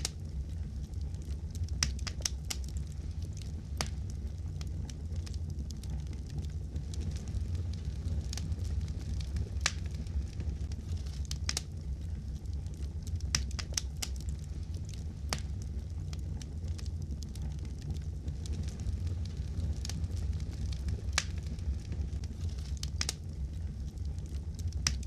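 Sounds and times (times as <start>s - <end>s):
burning logs popping: 0.0s - 25.0s
wood fire crackling: 0.0s - 25.0s.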